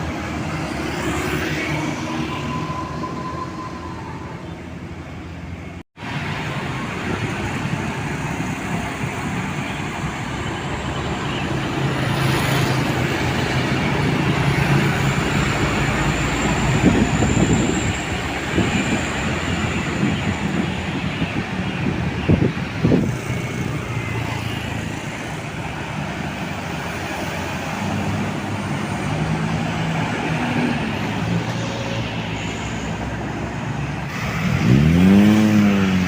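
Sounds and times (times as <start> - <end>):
moving vehicle rumbling: 0.0 - 36.0.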